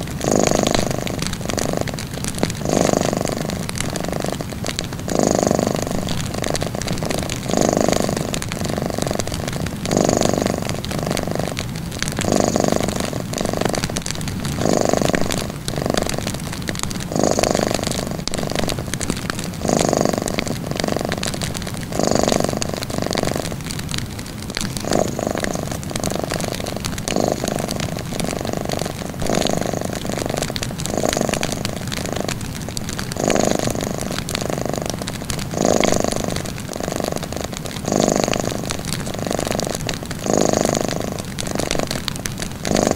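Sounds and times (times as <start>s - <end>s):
cat purring: 0.0s - 42.9s
wood fire crackling: 0.0s - 42.9s.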